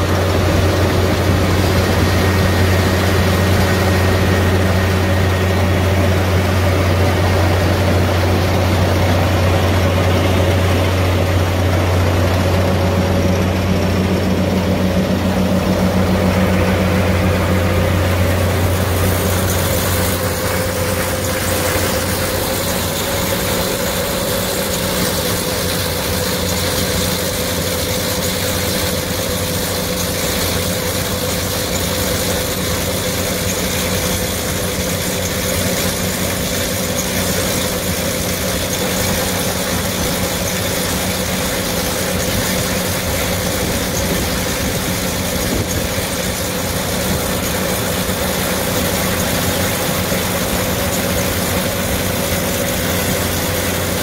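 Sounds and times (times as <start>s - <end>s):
diesel engine running: 0.0s - 54.0s
steady whine: 0.0s - 54.0s.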